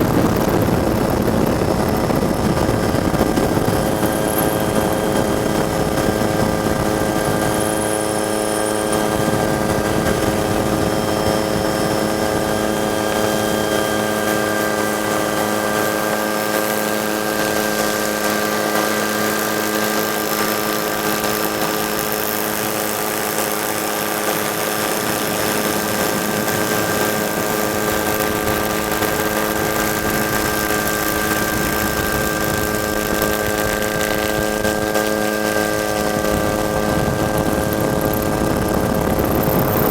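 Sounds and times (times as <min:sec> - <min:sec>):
helicopter engine whine: 0:00.0 - 0:39.9.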